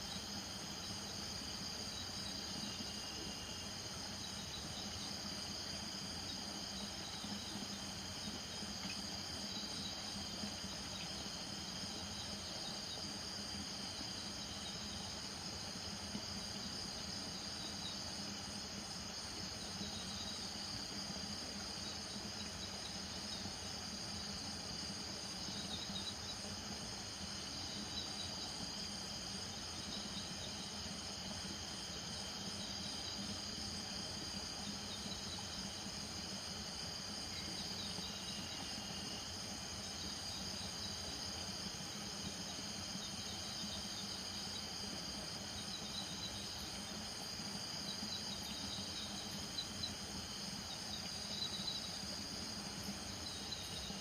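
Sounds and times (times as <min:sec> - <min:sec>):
low hum of calling frogs: 0:00.0 - 0:54.0.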